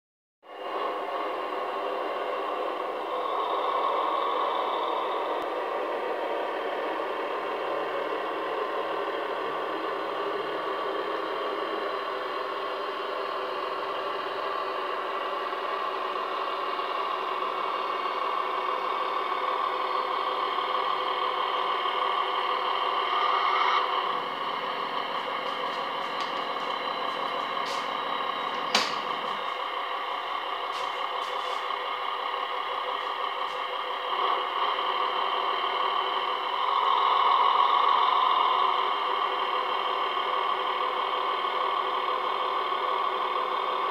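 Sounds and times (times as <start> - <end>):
diesel locomotive engine through loudspeaker: 0.4 - 43.9.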